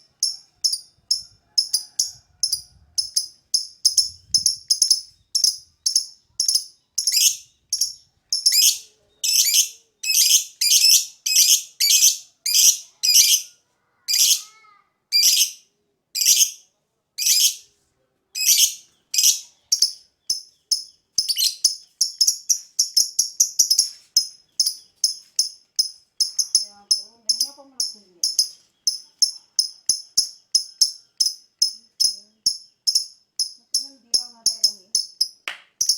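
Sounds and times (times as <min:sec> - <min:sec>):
lovebird chirping: 0:00.0 - 0:13.5, 0:18.4 - 0:35.9.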